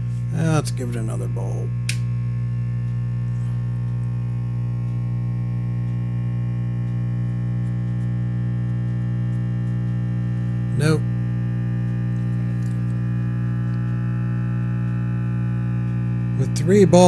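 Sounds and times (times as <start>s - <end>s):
mains hum from radio speaker: 0.0s - 17.0s.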